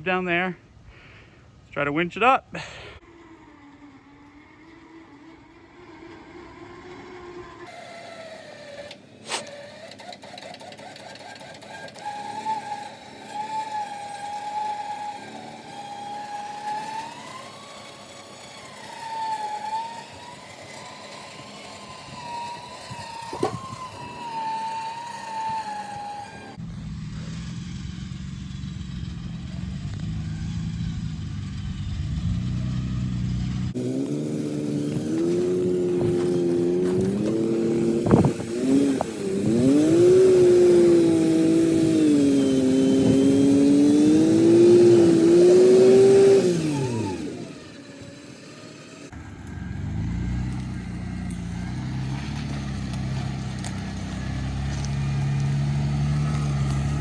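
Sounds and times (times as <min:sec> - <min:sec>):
vehicle engine running low: 0:00.0 - 0:57.0
electric winch motor whining: 0:03.0 - 0:57.0.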